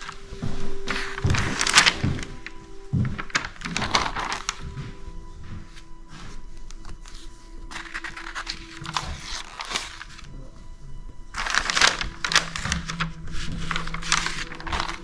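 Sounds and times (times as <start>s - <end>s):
faint background music: 0.0s - 15.0s
photo album pages rustling: 0.0s - 15.0s.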